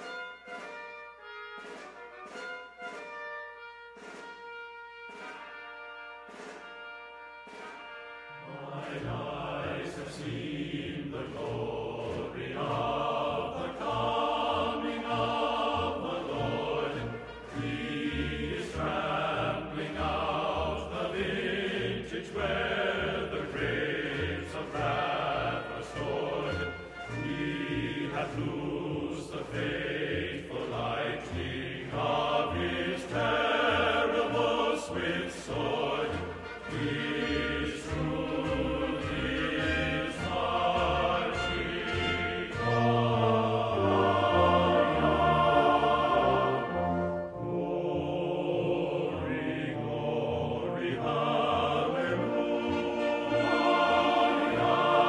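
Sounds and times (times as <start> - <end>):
choir-like music with low beat: 0.0 - 55.0.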